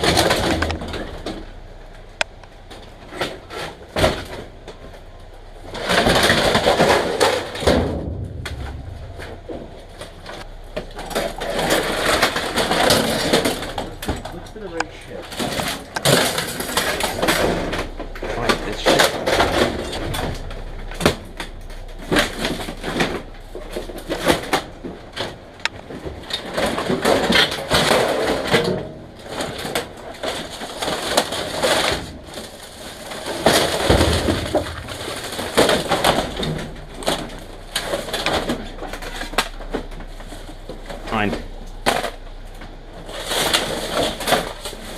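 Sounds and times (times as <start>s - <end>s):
plastic and metal junk clattering: 0.0s - 44.9s.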